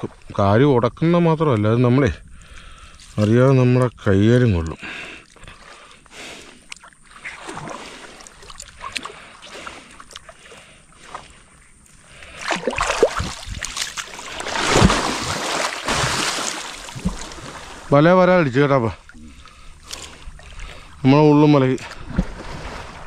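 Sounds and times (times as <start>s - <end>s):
water splashing around boat: 2.4s - 23.0s.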